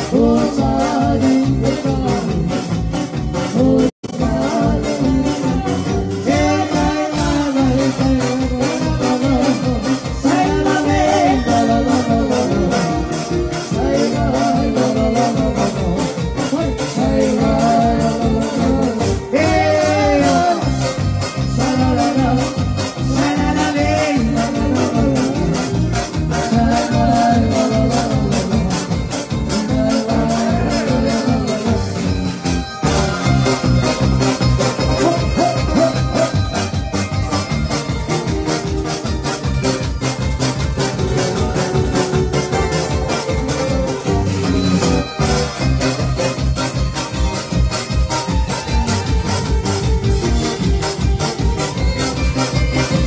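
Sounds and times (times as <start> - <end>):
band playing fast dance music: 0.0 - 53.0.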